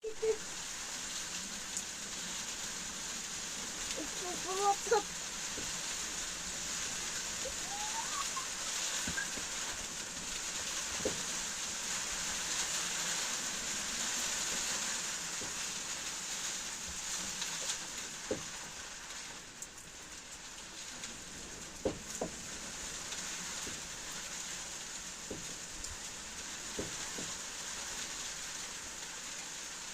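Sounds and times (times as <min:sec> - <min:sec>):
sharp rain taps: 0:00.0 - 0:29.9
steady rain falling: 0:00.0 - 0:29.9.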